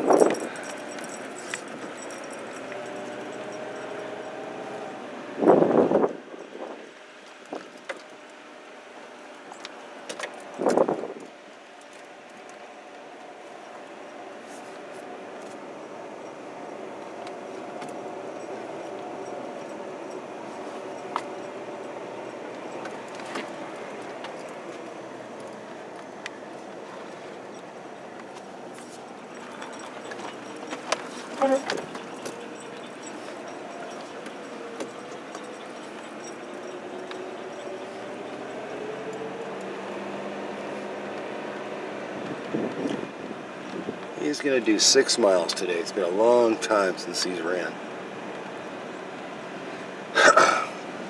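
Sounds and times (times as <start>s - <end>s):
tyre and road noise: 0.0s - 51.0s
vehicle engine hum: 0.0s - 51.0s.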